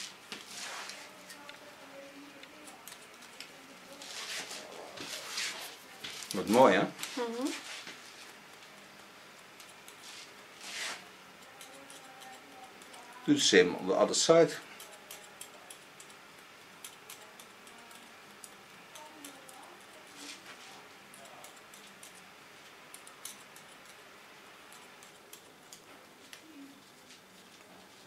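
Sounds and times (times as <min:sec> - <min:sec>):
scissors snipping hair: 0:02.2 - 0:27.7.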